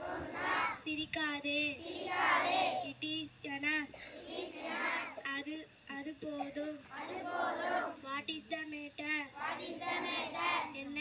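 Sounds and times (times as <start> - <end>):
girl chanting a prayer: 0.0 - 11.0.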